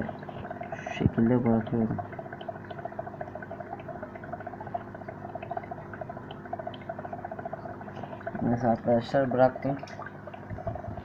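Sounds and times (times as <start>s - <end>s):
aquarium filter bubbling: 0.0s - 11.0s
steady low hum: 0.0s - 11.0s.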